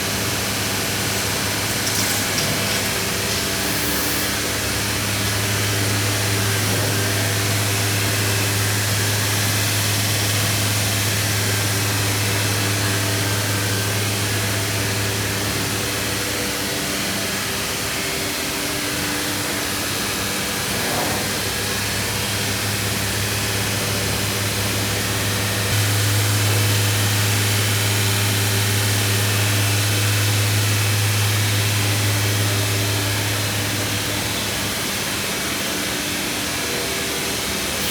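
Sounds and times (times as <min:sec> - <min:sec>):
router machine hum and drone: 0:00.0 - 0:37.9.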